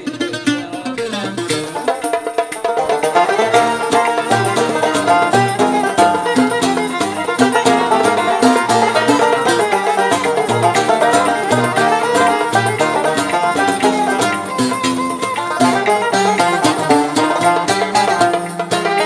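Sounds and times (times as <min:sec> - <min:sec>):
fast plucked-string melody: 0:00.0 - 0:19.0.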